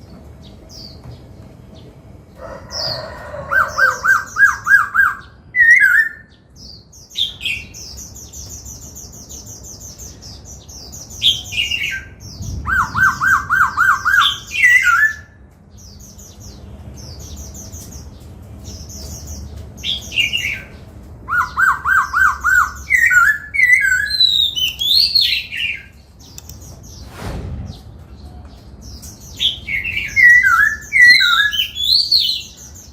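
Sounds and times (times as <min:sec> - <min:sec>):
bird singing varied song: 0:00.0 - 0:27.1, 0:27.7 - 0:32.9.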